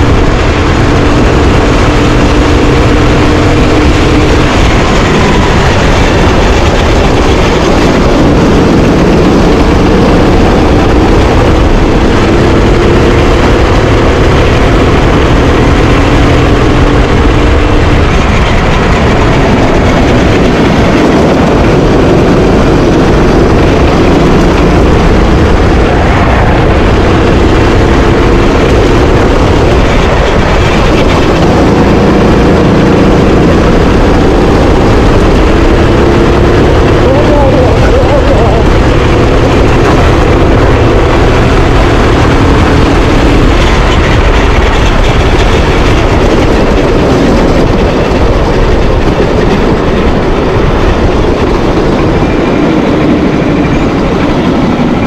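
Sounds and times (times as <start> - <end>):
kart engine revving: 0.0 - 55.0
loud rushing noise: 0.0 - 55.0.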